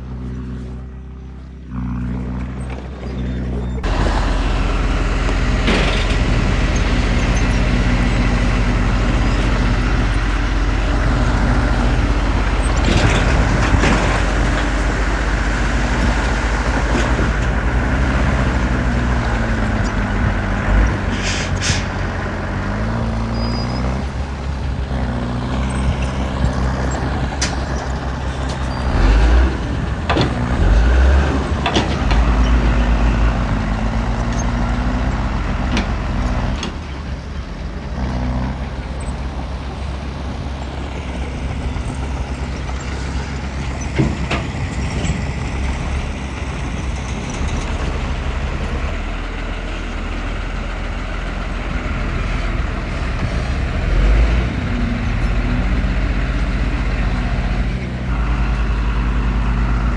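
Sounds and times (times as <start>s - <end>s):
diesel machinery engine revving: 0.0s - 59.9s.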